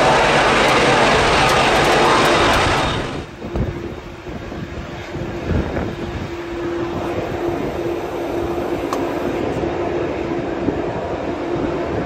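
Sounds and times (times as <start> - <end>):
jet aircraft rushing: 0.0 - 12.0.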